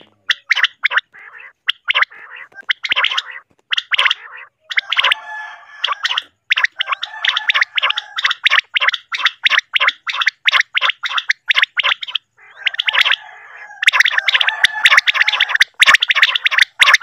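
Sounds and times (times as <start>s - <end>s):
faint continuous chattering: 0.0s - 17.0s
quail calling sharp notes: 0.0s - 17.0s.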